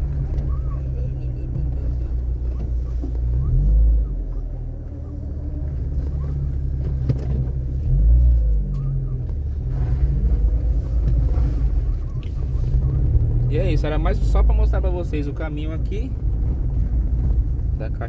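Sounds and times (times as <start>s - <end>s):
car engine rumble: 0.0s - 18.0s.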